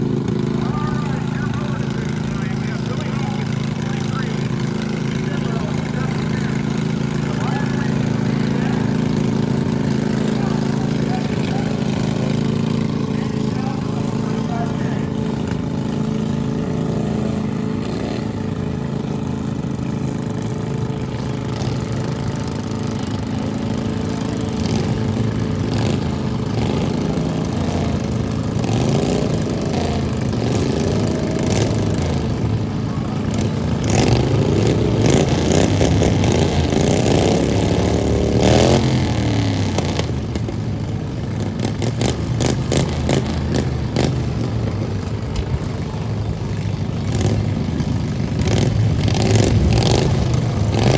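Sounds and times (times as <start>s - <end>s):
lawn mower engines revving: 0.0s - 50.9s.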